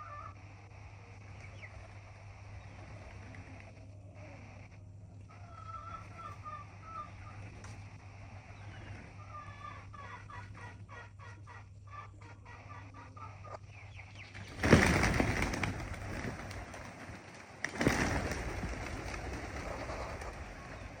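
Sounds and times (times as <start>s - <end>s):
faint bird calls: 0.0s - 21.0s.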